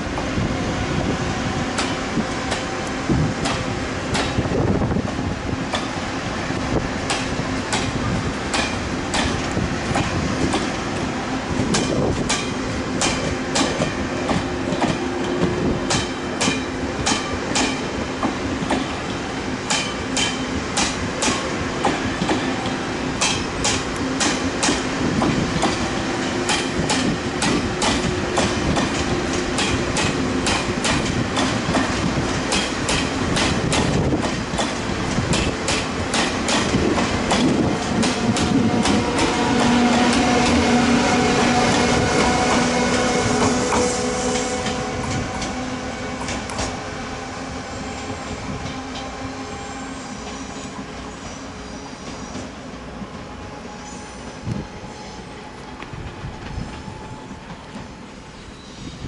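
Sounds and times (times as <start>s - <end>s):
train rolling rumble: 0.0s - 59.0s
train wheels clickety-clack: 1.6s - 6.0s, 6.8s - 47.3s, 48.1s - 49.4s, 52.0s - 53.6s, 54.5s - 58.2s.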